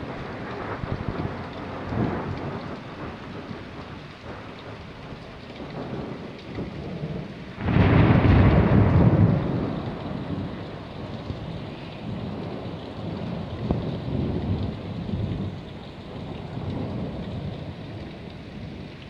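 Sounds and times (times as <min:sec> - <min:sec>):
rain falling: 0:00.0 - 0:19.0
thunder rumble: 0:00.1 - 0:19.0.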